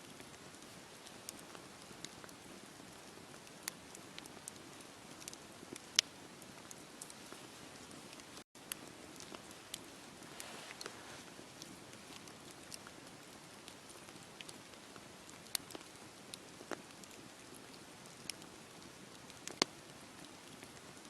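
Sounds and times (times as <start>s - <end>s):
fire crackling and popping: 0.1s - 21.0s
wood fire hissing: 0.3s - 20.9s.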